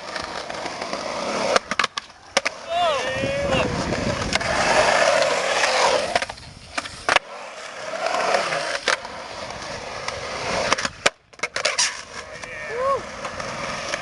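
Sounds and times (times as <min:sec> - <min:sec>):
skateboard clacking: 0:00.0 - 0:14.0
skateboard wheels rolling: 0:00.0 - 0:14.0.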